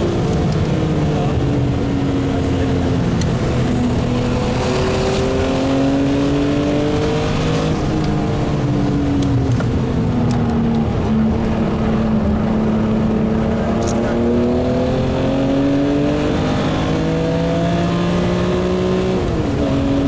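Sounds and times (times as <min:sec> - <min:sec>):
car engine revving from inside: 0:00.0 - 0:20.0.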